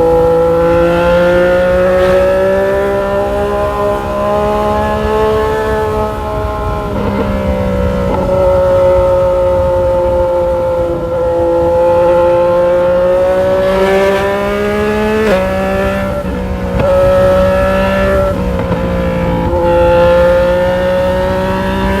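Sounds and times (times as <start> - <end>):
motorcycle engine cruising: 0.0 - 22.0
wind and road noise rumble: 0.0 - 22.0.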